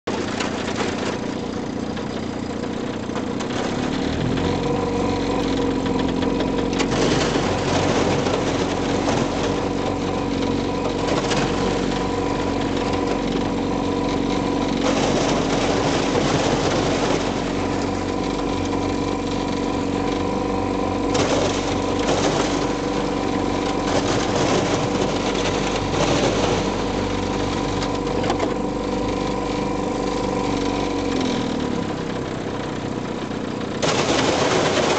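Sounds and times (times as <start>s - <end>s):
outboard motor running: 0.0s - 34.9s
hull crunching through ice: 3.4s - 31.8s.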